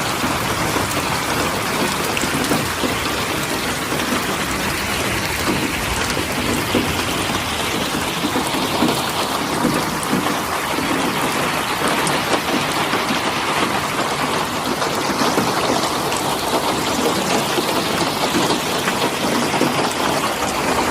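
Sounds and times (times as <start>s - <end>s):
rain falling steadily: 0.0s - 20.9s.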